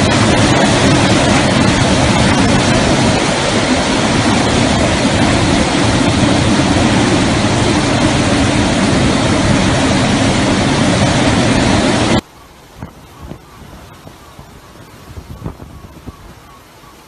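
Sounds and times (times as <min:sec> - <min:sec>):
driving rain: 0:00.0 - 0:16.2
hurricane wind: 0:00.0 - 0:17.0.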